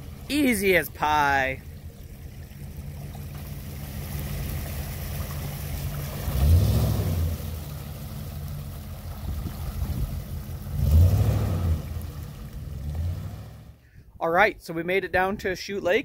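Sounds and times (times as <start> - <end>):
tyres sloshing through water: 0.0 - 13.8
truck engine running low: 0.0 - 13.9.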